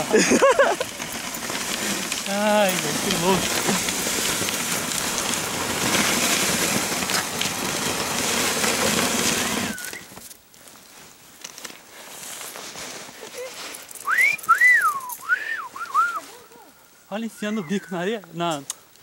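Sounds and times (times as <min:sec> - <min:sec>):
sled runners hissing over snow: 0:00.0 - 0:18.2.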